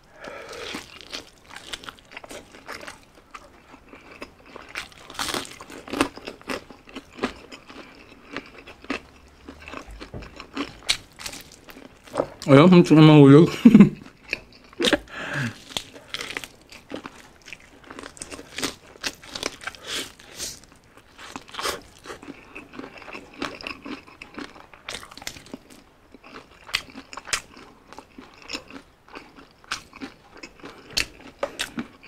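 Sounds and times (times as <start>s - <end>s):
crunching fried chicken: 0.2s - 12.6s, 14.0s - 32.0s.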